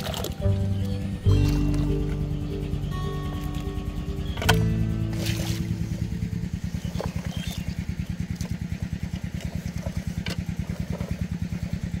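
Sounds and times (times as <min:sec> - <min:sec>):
engine idling with chugging pulse: 0:00.0 - 0:12.0.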